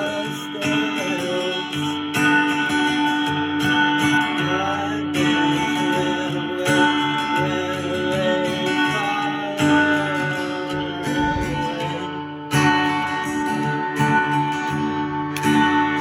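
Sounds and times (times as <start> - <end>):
guitar strum: 0.0 - 16.0.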